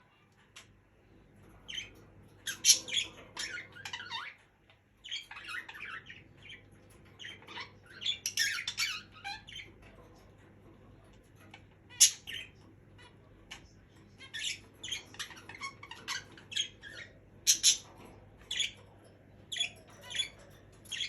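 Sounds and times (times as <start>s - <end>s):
budgerigars chirping and chattering: 0.0s - 21.0s.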